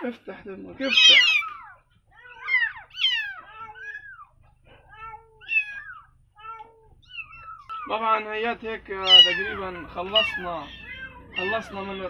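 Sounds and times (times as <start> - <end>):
kittens mewing: 0.8 - 8.1, 8.9 - 12.0.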